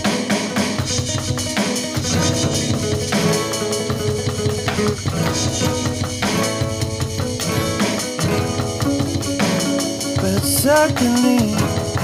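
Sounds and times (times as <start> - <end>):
drum kit beat: 0.0 - 12.0
held instrumental notes: 0.0 - 12.0.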